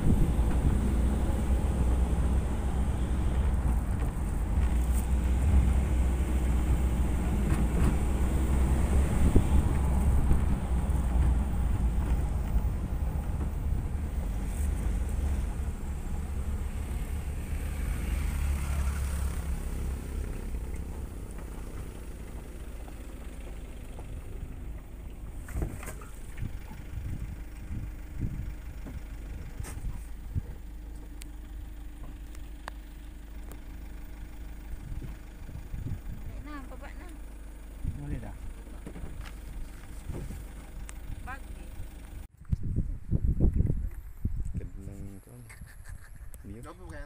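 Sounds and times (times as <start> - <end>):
truck driving rumble: 0.0 - 47.0.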